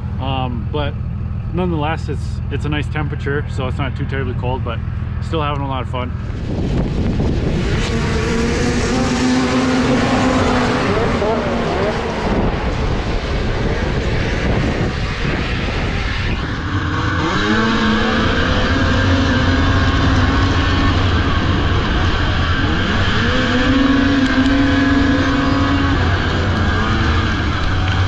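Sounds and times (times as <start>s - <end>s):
snowmobile engines revving: 1.6s - 28.0s.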